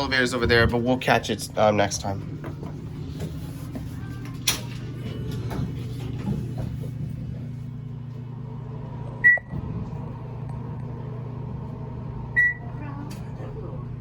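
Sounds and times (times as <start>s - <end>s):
elevator low hum: 0.0s - 14.0s.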